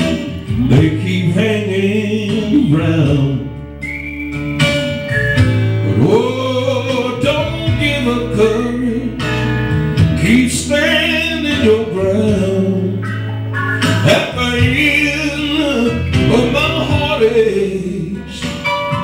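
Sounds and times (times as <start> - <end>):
man singing into a microphone: 0.0 - 3.6, 5.8 - 9.4, 10.0 - 19.0
live instrumental backing: 0.0 - 19.0.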